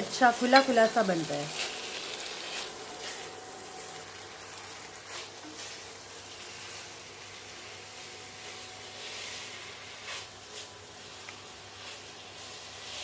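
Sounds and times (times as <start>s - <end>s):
fried rice sizzling in pan: 0.0s - 13.0s.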